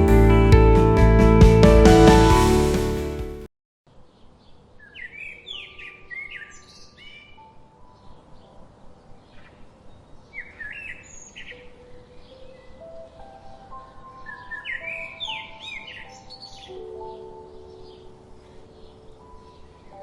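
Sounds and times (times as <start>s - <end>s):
songbird chirping: 3.9s - 20.0s.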